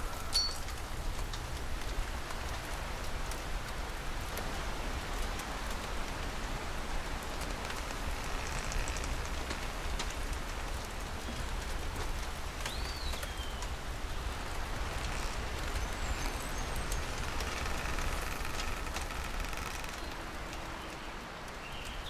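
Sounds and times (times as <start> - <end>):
rain patter: 0.0 - 22.0.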